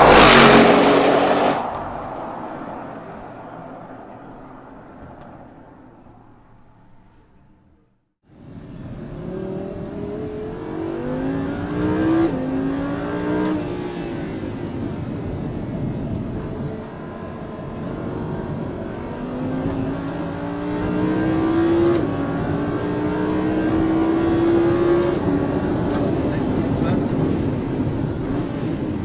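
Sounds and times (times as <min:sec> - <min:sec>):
car engine accelerating hard: 0:00.0 - 0:06.1, 0:08.8 - 0:29.0.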